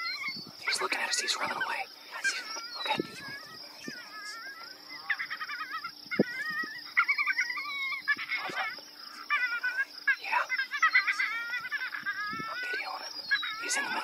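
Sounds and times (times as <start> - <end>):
warbling animal calls: 0.0 - 14.0.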